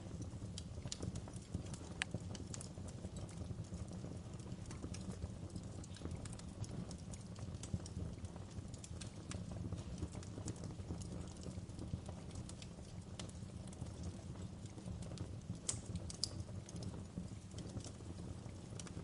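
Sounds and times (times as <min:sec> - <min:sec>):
low rumble of flames: 0:00.0 - 0:19.0
wood fire pops and snaps: 0:00.0 - 0:19.0.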